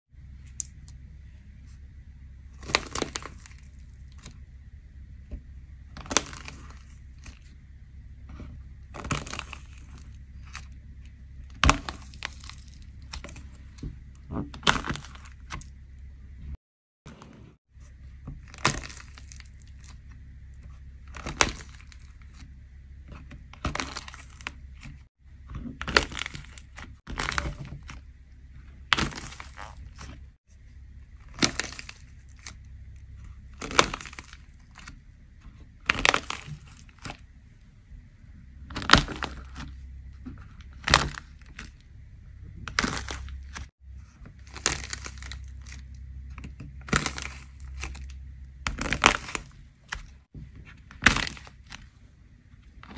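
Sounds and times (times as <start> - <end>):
steady low hum: 0.1 - 52.9
clay shells cracking and crunching: 0.4 - 1.1, 2.6 - 4.5, 5.3 - 7.7, 8.7 - 15.9, 17.9 - 37.4, 38.6 - 52.9.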